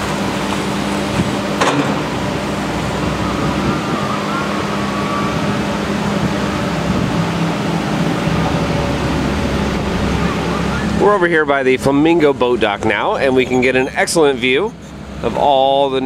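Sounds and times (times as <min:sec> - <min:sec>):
low mechanical hum: 0:00.0 - 0:16.0
outdoor noise: 0:00.0 - 0:16.0.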